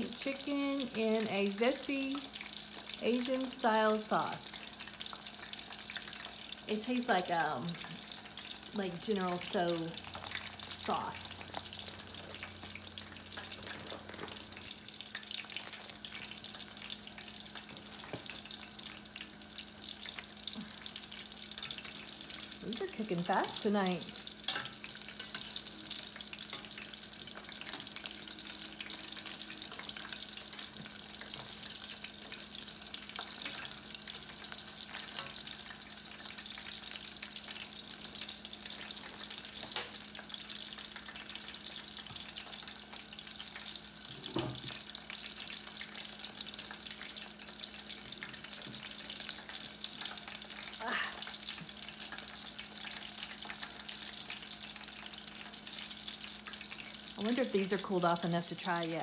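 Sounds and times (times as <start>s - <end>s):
hot oil sizzling: 0.0s - 59.0s.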